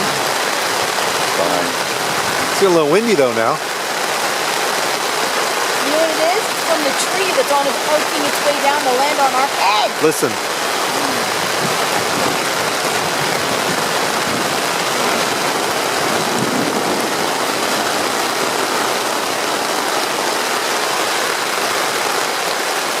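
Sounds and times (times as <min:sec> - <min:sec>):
heavy rain on a tent: 0:00.0 - 0:23.0.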